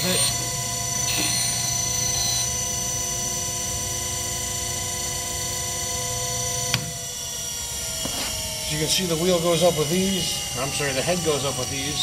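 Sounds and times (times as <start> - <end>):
grinder motor humming and whining: 0.0 - 12.0.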